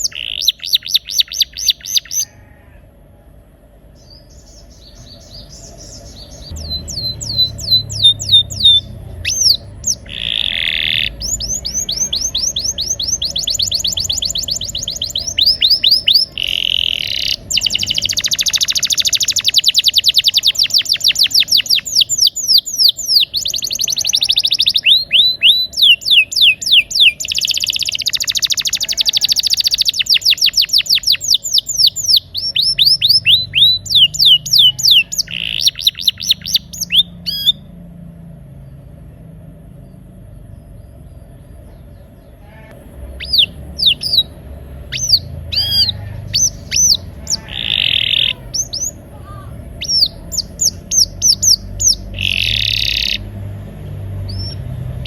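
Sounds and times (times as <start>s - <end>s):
canary singing trills: 0.0s - 2.6s, 3.8s - 55.0s.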